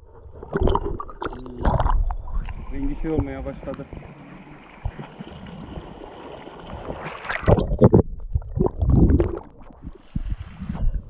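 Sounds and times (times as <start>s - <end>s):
stream water gurgling: 0.0s - 11.0s
water splashing: 0.0s - 11.0s.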